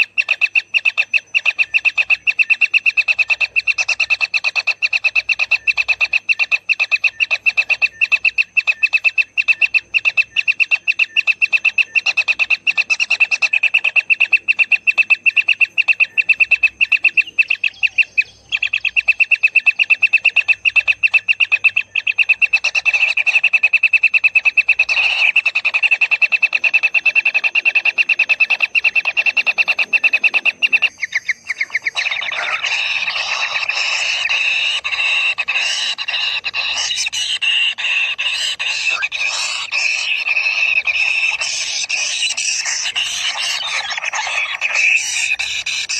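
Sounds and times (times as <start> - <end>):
nestlings calling harshly: 0.0 - 45.9.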